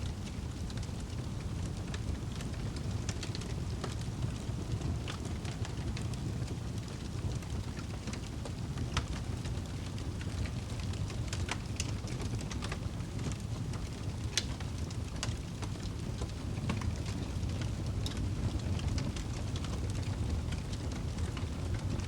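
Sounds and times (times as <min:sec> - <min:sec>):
fire crackles and pops: 0:00.0 - 0:22.0
low rumble of fire flames: 0:00.0 - 0:22.0.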